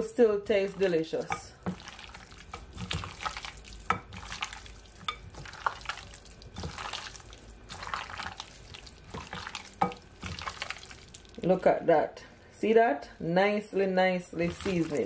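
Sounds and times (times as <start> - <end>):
hand squishing meat in bowl: 0.5 - 11.5, 13.4 - 15.0.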